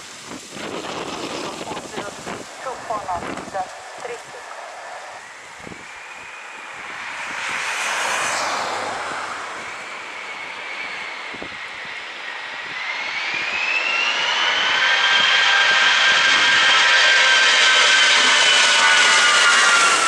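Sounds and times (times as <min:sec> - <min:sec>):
jet engine whine rising: 0:00.0 - 0:20.0
jet engines roaring: 0:00.0 - 0:20.0.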